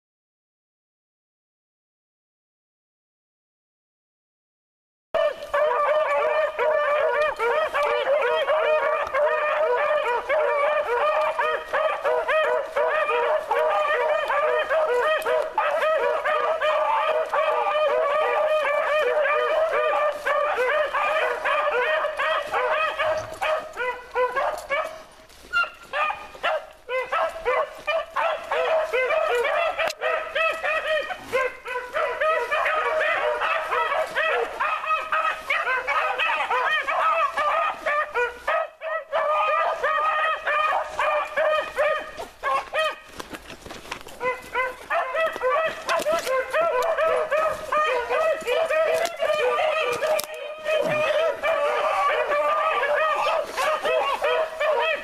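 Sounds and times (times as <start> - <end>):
dogs baying together: 5.2 - 55.0.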